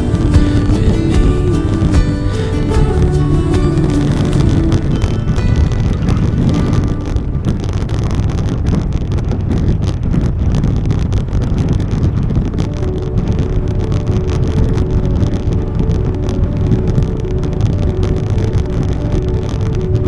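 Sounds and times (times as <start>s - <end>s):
faint background music: 0.0s - 8.4s, 12.4s - 20.0s
low rumbling with crackling: 0.0s - 20.0s.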